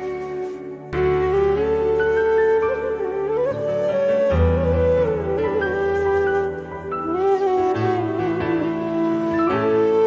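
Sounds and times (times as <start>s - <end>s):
slow instrumental melody: 0.0s - 10.0s.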